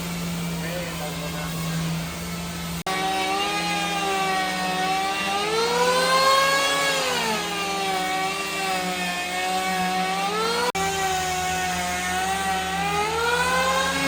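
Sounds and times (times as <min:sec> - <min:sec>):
power tool motor whine: 0:00.0 - 0:14.0.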